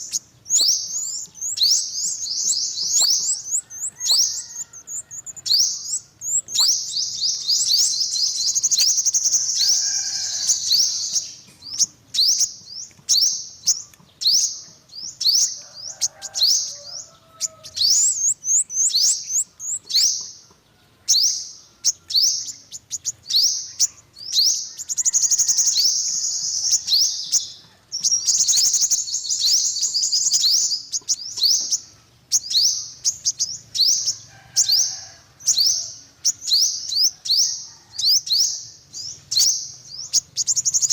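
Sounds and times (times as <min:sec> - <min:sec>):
bird high thin chirps: 0:00.0 - 0:20.4, 0:21.1 - 0:40.9
bird chattering trills: 0:00.0 - 0:20.5, 0:21.1 - 0:40.9.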